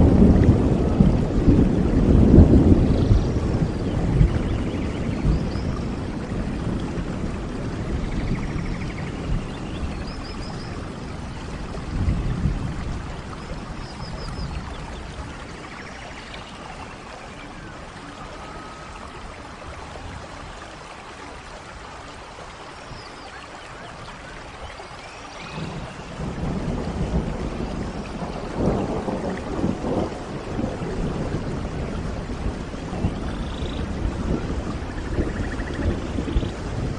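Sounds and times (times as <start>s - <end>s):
low rolls of thunder: 0.0s - 21.5s, 25.3s - 36.9s
steady rain: 0.0s - 36.9s.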